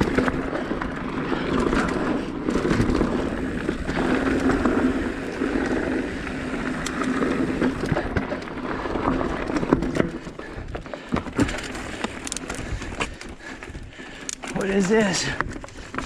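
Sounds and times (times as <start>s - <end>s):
bike rattling and knocking: 0.0s - 16.0s
bike tyre noise on trail: 0.0s - 16.0s.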